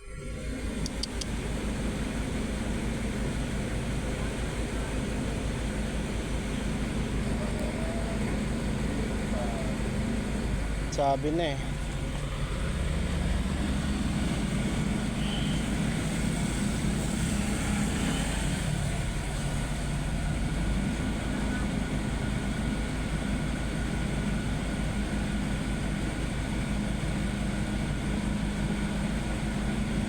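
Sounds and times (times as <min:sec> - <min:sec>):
heavy diesel engine droning: 0:00.0 - 0:30.0.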